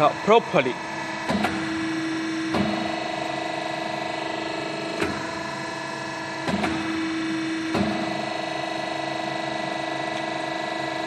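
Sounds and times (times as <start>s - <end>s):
hydraulic pump hum: 0.0s - 11.0s.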